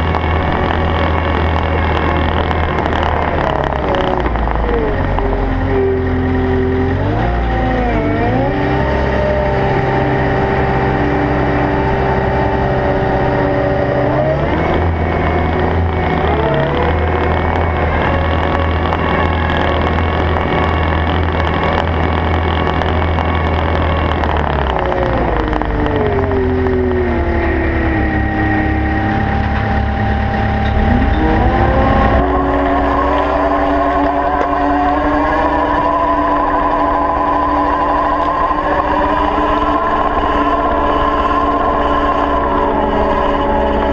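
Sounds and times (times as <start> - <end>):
track loader engine running: 0.0 - 43.9.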